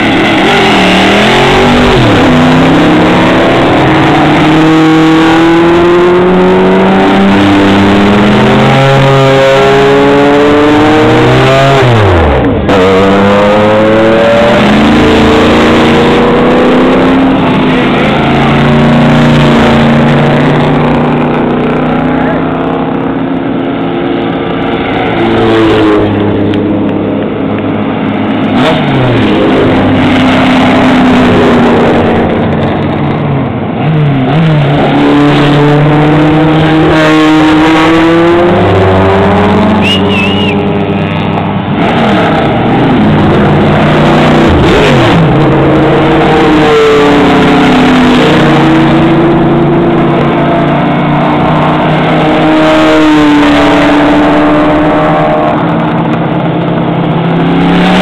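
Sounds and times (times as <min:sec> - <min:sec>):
race car engines passing by: 0:00.0 - 0:58.0.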